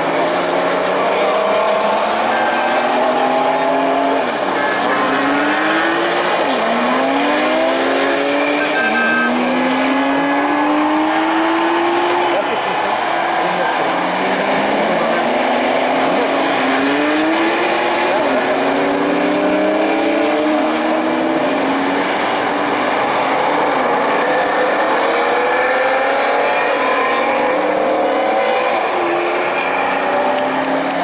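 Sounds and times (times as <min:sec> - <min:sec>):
car engines accelerating: 0:00.0 - 0:31.0.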